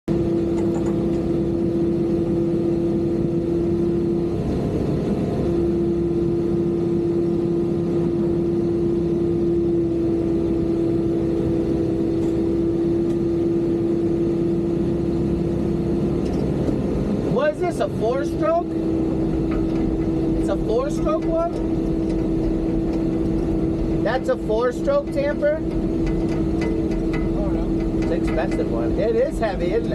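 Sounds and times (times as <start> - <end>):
constant whine: 0.1 - 29.9
construction machine engine running: 0.1 - 29.9.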